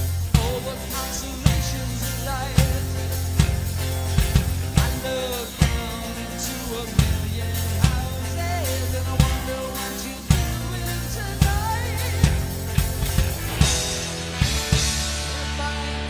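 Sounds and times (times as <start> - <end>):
person singing: 0.0 - 13.6, 15.2 - 16.0
bass line: 0.0 - 16.0
drum kit playing a beat: 0.0 - 16.0.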